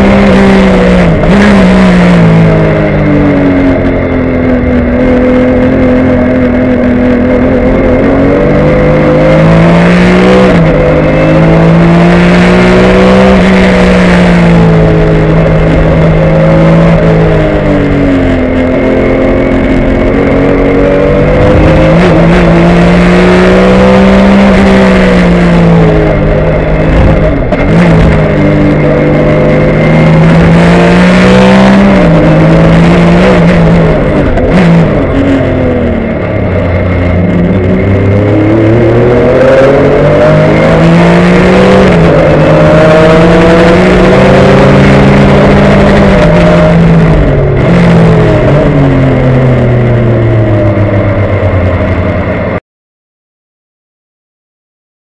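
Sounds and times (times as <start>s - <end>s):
race car engine revving: 0.0s - 52.6s.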